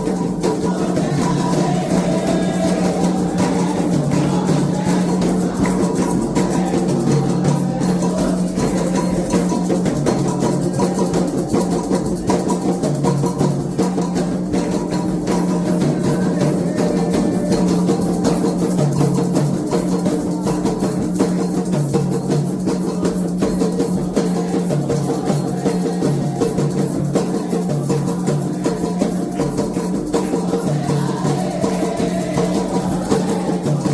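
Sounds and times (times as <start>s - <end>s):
hand drums playing fast rhythm: 0.0s - 33.9s.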